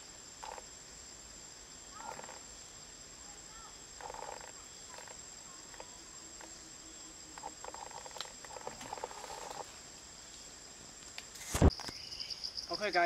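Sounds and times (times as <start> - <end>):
insects high-pitched whine: 0.0 - 13.0.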